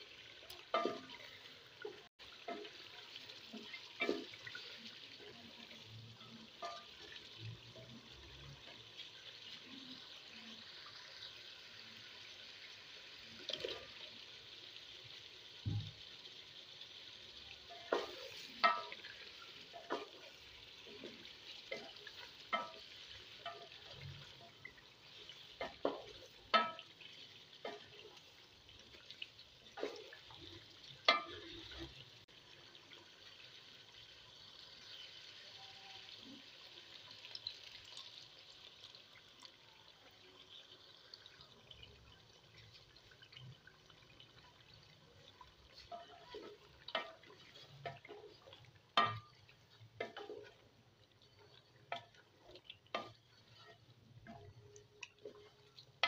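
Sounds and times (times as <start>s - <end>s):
curry sizzling in a pot: 0.0s - 56.0s.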